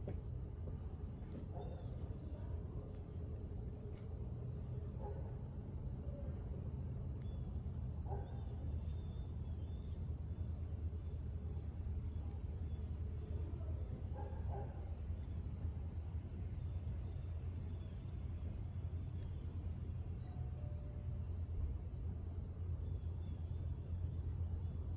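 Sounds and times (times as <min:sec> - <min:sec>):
insects trilling: 0:01.6 - 0:24.9.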